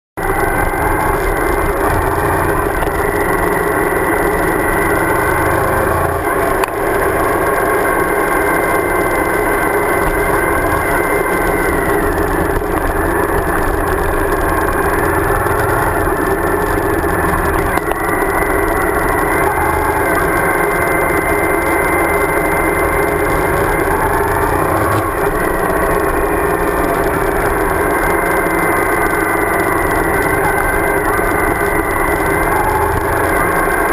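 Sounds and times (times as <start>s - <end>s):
motorcycle engine running: 0.2s - 33.9s
road noise: 0.2s - 33.9s.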